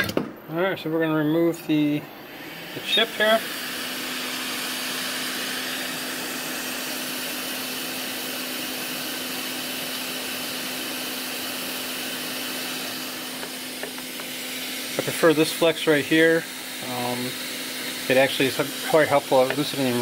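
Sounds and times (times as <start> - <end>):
hot air blower rushing: 1.7 - 20.0.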